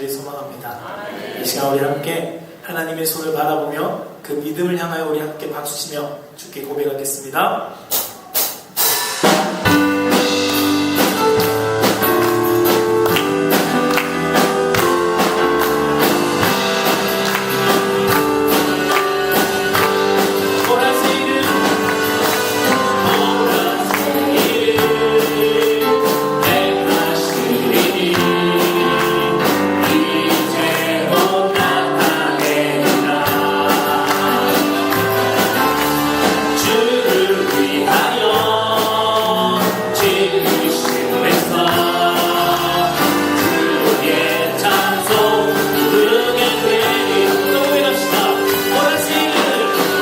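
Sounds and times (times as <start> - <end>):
worship song with band: 7.5 - 50.0
percussive beat: 8.2 - 50.0.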